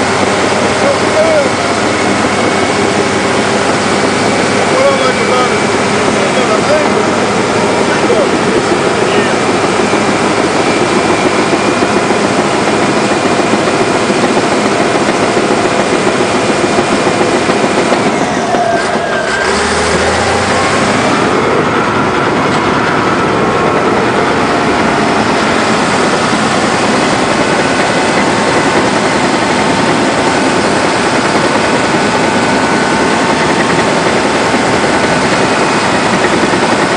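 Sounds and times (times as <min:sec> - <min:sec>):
diesel dozer engine running: 0:00.0 - 0:36.9
high whine: 0:00.0 - 0:36.9.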